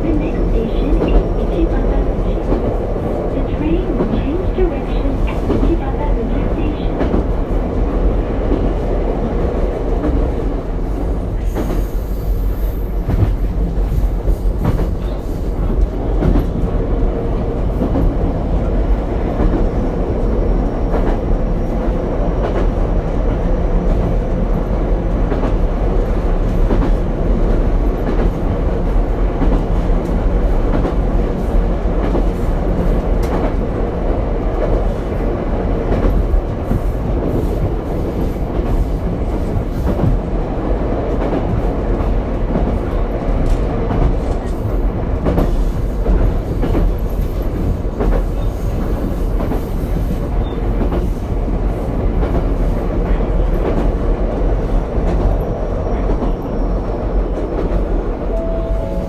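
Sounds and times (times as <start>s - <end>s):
rail joint clacks: 0.0s - 24.1s, 25.1s - 59.0s
train rolling rumble: 0.0s - 59.0s.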